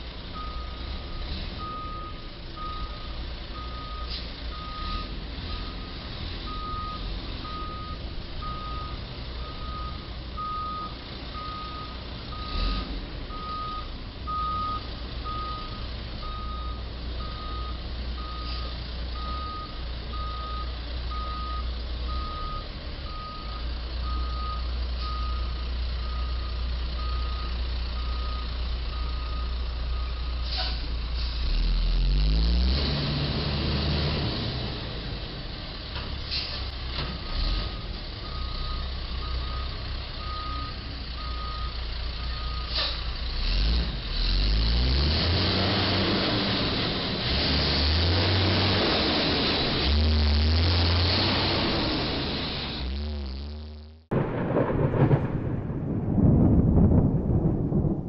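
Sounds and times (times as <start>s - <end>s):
truck reversing alarm beeping: 0.0s - 55.2s
engine and traffic rumble: 0.0s - 58.0s.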